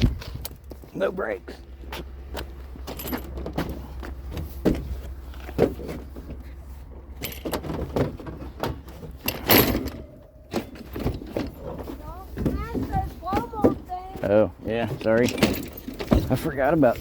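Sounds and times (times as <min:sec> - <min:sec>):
vehicle engine idling: 0:00.0 - 0:17.0
scrap metal knocking and clanking: 0:01.8 - 0:17.0.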